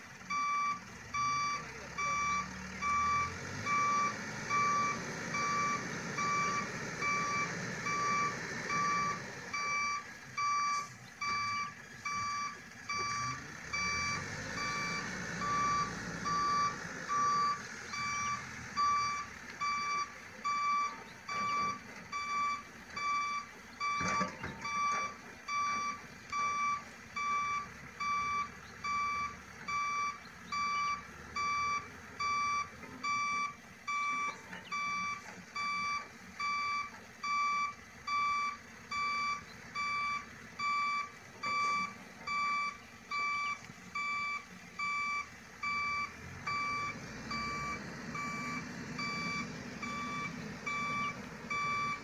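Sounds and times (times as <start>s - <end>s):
vehicle reversing alarm beeping: 0.0s - 52.0s.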